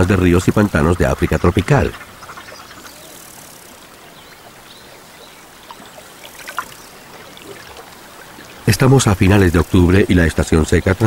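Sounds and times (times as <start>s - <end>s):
trickling river water: 0.0s - 11.0s.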